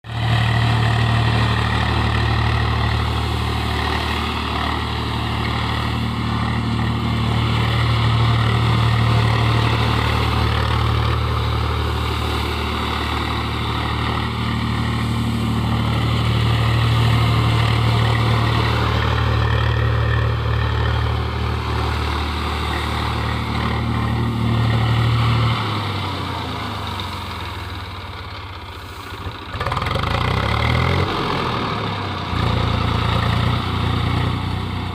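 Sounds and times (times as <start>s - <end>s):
farm machinery engine running: 0.0s - 34.9s.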